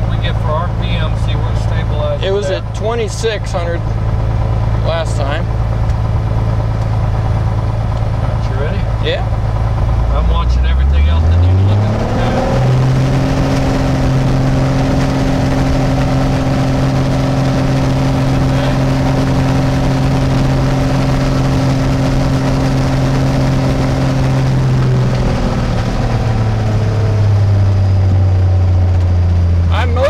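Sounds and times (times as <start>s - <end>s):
airplane engine and propeller running: 0.0s - 30.0s.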